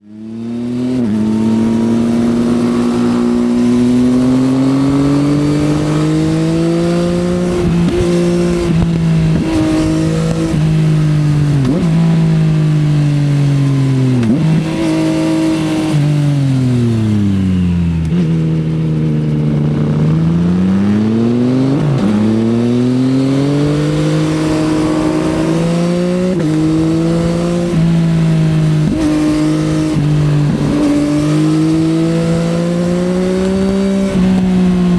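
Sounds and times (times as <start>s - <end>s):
motorcycle engine revving: 0.0s - 34.9s
wind noise: 0.4s - 16.0s, 20.8s - 34.9s.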